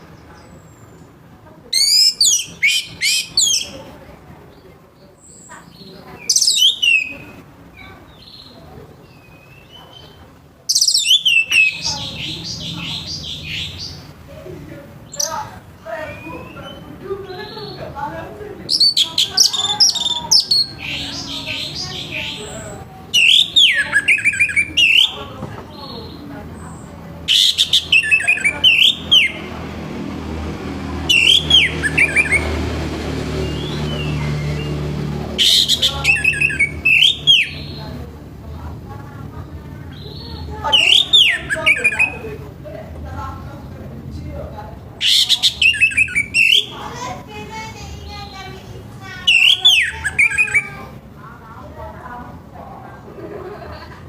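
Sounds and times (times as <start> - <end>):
thrush singing: 1.7 - 4.2, 5.3 - 9.9, 10.7 - 14.3, 14.9 - 52.5.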